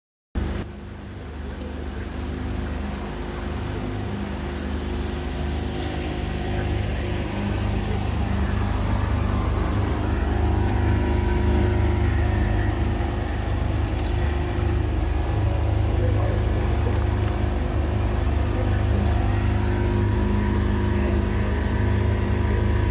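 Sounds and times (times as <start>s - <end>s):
motorboat engine running: 0.4s - 22.9s.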